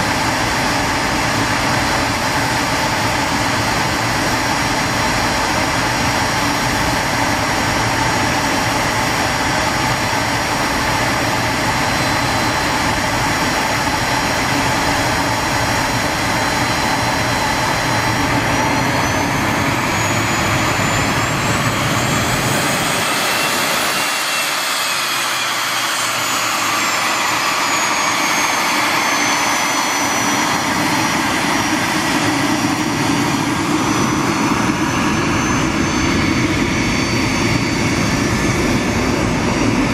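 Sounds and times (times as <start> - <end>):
jet engines rushing and whining: 0.0 - 39.9
rising and falling high whine: 0.0 - 39.9.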